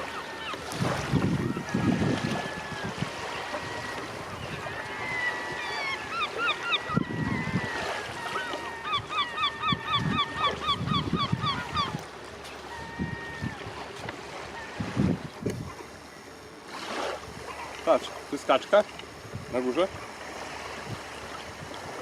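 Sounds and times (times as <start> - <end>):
gulls calling: 0.0 - 16.6, 17.3 - 19.0.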